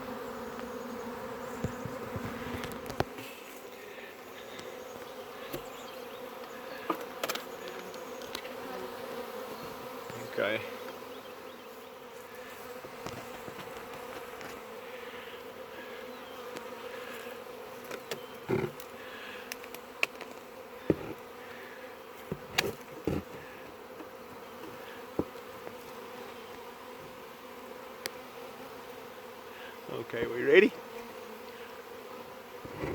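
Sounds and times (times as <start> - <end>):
bee swarm buzzing: 0.0 - 32.9.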